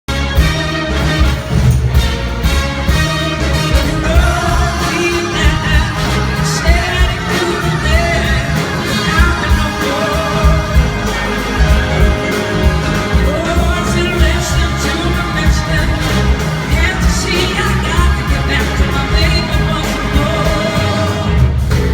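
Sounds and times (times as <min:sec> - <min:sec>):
live blues-rock band playing: 0:00.2 - 0:21.9
person singing: 0:03.0 - 0:21.9.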